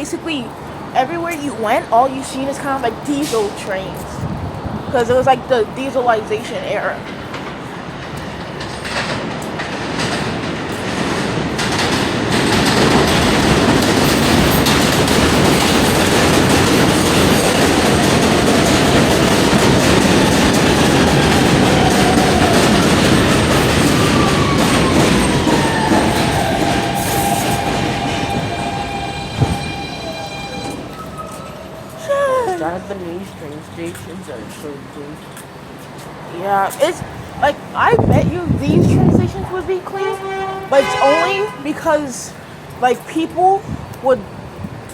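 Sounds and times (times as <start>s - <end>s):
subway train wheels rumbling: 0.0s - 44.9s.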